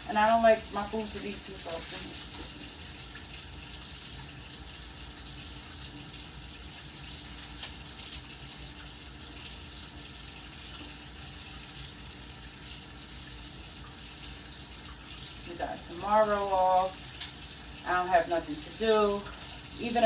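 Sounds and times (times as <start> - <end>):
water running from tap: 0.0 - 20.0.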